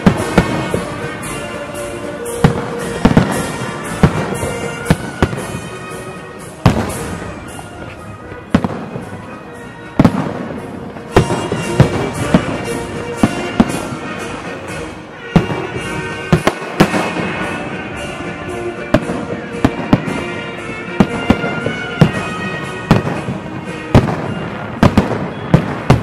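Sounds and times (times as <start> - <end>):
fireworks bursting with sharp bangs: 0.0 - 26.0
steady music: 0.0 - 26.0.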